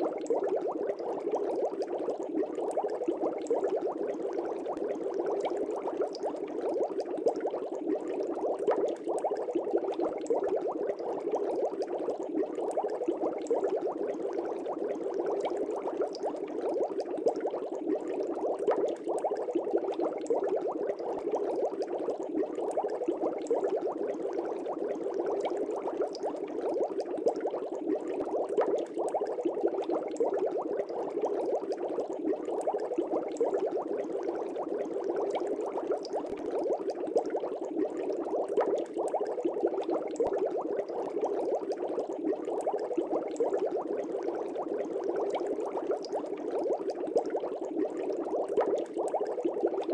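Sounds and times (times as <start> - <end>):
aquarium bubbling: 0.0 - 49.9.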